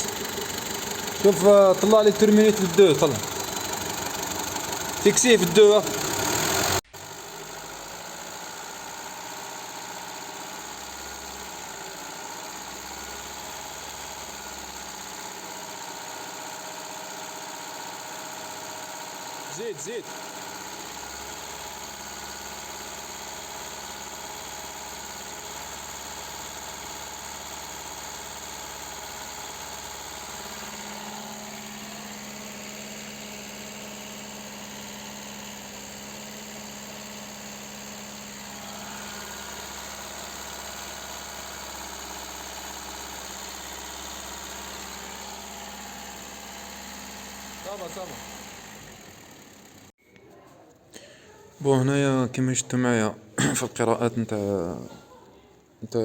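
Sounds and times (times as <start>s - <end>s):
car engine running steadily: 0.0s - 50.0s.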